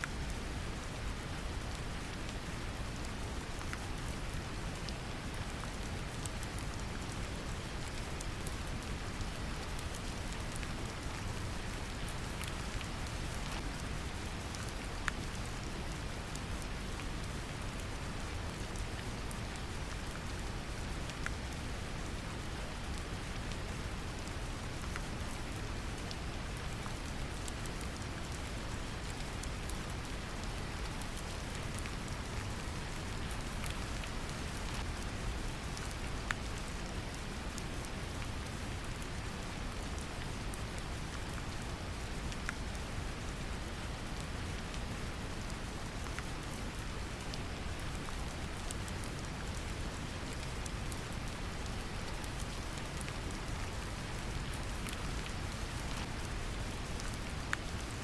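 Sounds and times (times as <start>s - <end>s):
brown noise hiss: 0.0s - 58.0s
gentle rain pattering: 0.0s - 58.0s.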